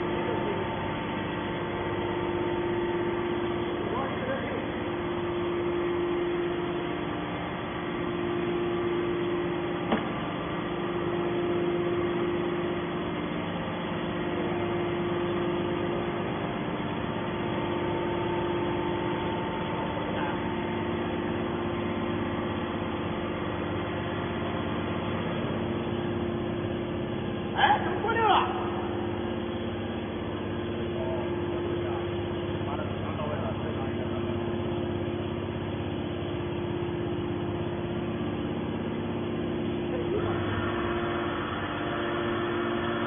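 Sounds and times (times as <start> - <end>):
hydraulic power unit humming: 0.0 - 43.0.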